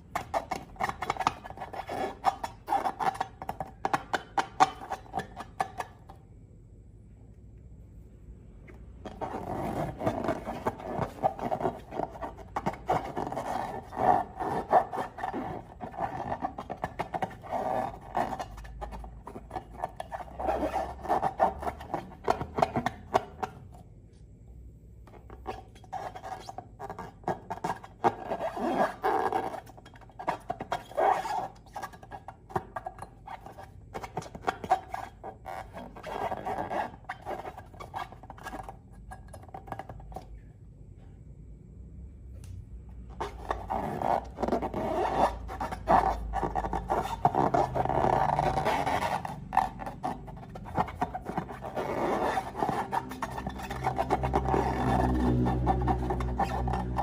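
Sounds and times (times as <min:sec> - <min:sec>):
rubbery squeaking of balloons: 0:00.0 - 0:06.0, 0:09.0 - 0:23.7, 0:25.1 - 0:40.3, 0:43.0 - 0:57.0.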